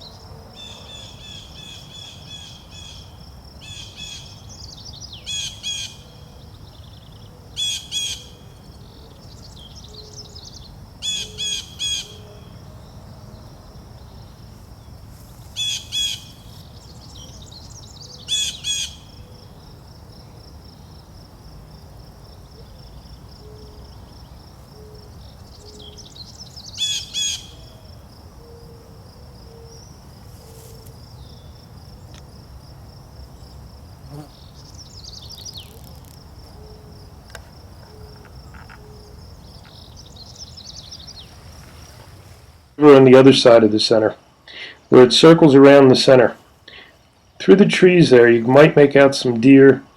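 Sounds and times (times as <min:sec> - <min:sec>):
songbirds chirping: 0:00.0 - 0:49.9
high-pitched insect trill: 0:00.6 - 0:42.7.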